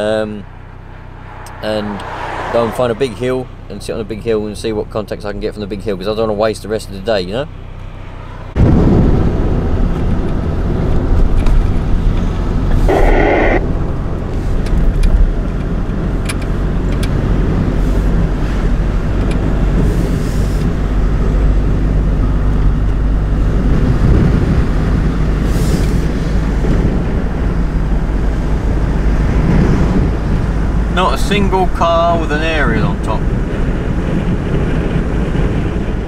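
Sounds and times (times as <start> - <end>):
car engine drone: 0.0 - 36.0
tyre and road noise: 0.0 - 36.0.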